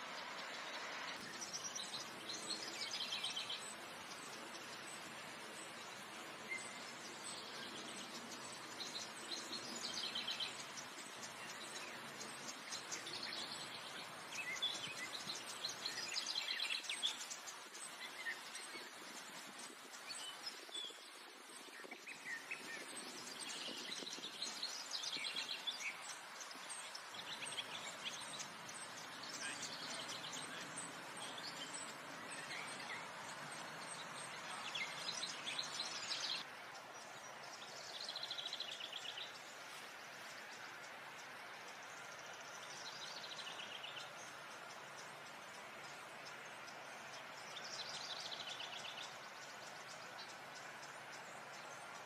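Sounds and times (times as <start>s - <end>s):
background hiss: 0.0s - 52.0s
small birds chirping: 0.0s - 52.0s.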